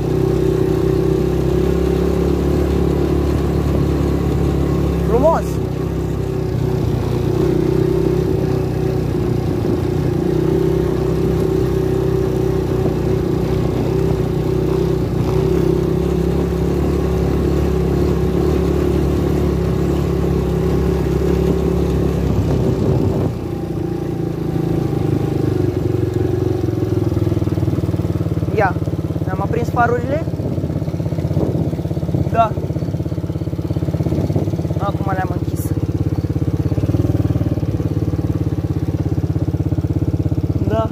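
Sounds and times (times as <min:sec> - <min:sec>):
quad engine droning: 0:00.0 - 0:40.9.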